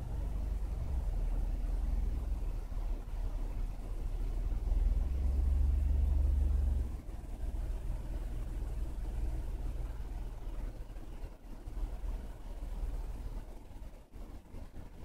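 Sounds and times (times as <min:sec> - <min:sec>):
deep steady rumble: 0:00.0 - 0:15.0.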